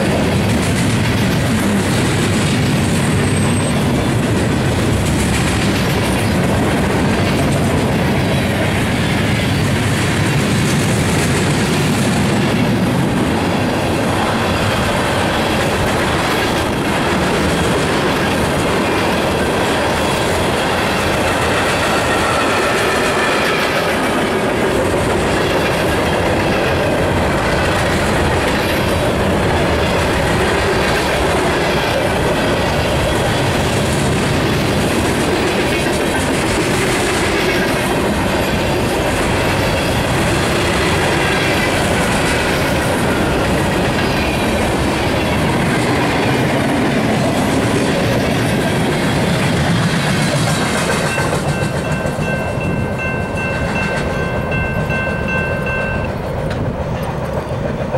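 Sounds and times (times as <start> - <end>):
freight train wheels clacking: 0.0 - 57.9.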